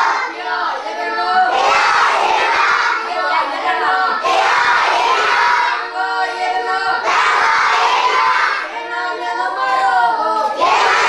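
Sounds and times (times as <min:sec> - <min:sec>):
children chanting in unison: 0:00.0 - 0:11.0.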